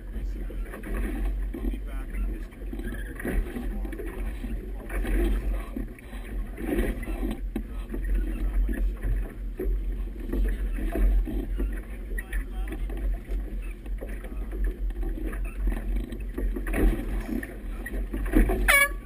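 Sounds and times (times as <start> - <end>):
water splashing against boat hull: 0.0 - 19.0.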